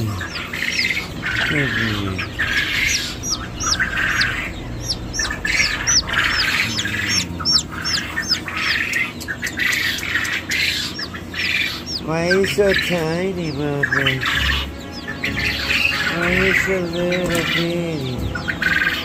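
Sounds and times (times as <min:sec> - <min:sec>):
birds squawking: 0:00.0 - 0:19.0
chicks peeping: 0:00.0 - 0:19.0.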